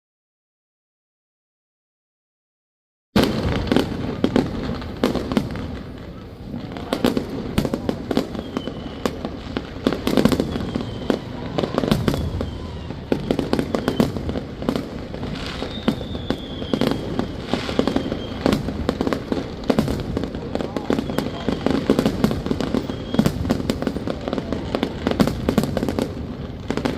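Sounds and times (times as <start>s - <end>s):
fireworks bangs and crackles: 3.2s - 26.9s
fireworks falling whistles: 3.2s - 26.9s.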